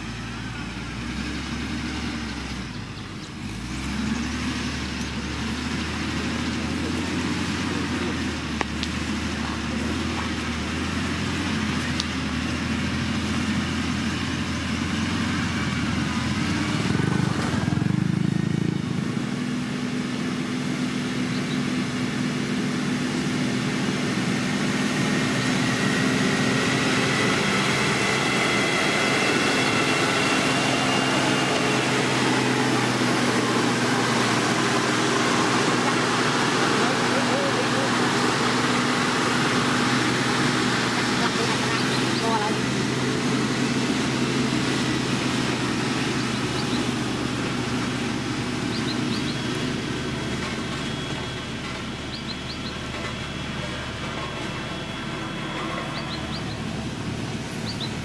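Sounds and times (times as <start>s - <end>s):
heavy machinery diesel engine running: 0.0s - 58.0s.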